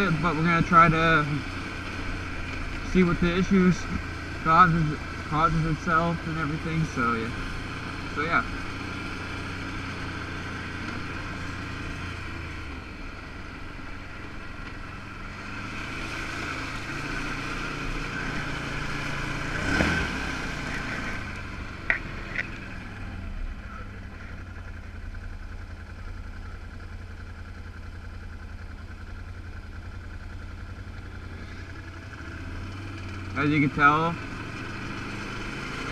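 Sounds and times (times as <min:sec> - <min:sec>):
atv engine running: 0:00.0 - 0:35.9.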